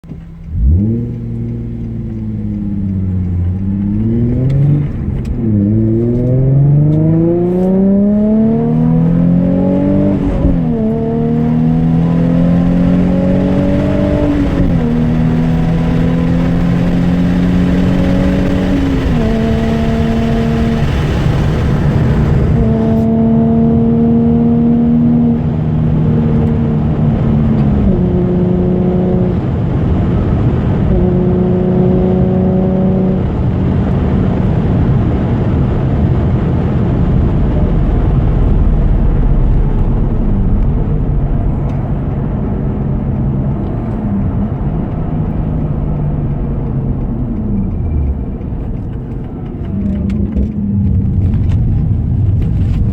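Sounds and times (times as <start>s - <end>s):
car engine drone in cabin: 0.0s - 52.9s.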